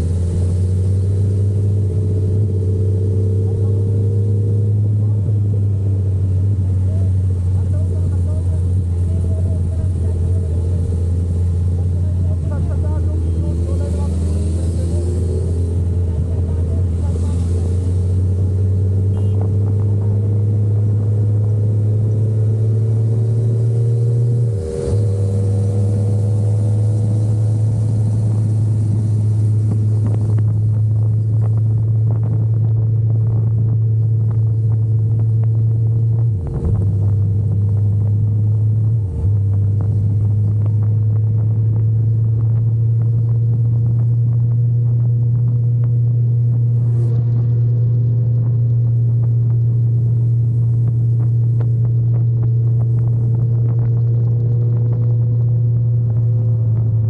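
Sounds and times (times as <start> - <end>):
motorcycle engine cruising: 0.0 - 57.0
wind rumble on microphone: 0.0 - 57.0.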